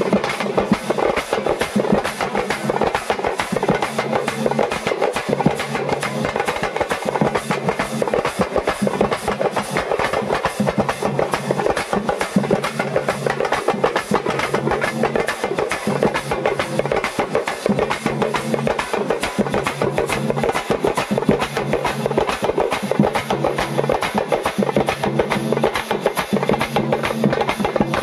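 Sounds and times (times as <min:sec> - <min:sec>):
fast continuous drumming: 0:00.0 - 0:28.0.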